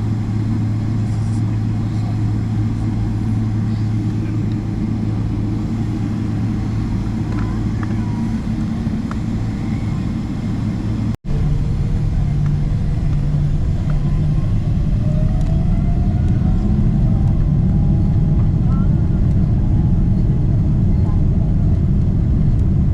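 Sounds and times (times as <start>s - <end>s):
jet engines rumbling: 0.0s - 22.9s
rising engine whine: 0.0s - 22.9s.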